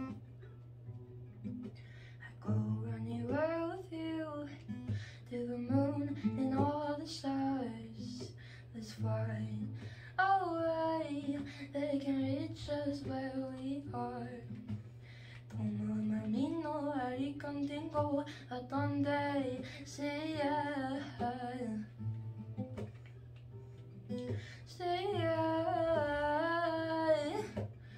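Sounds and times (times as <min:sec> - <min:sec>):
woman singing: 0:00.0 - 0:00.2, 0:02.2 - 0:14.8, 0:15.4 - 0:22.2, 0:24.1 - 0:27.8
acoustic guitar: 0:00.0 - 0:27.9.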